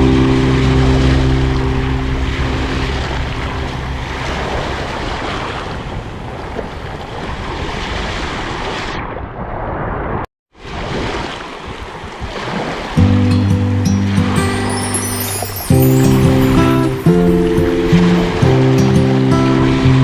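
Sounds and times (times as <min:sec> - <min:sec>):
waves washing in: 0:00.0 - 0:09.0, 0:10.6 - 0:20.0.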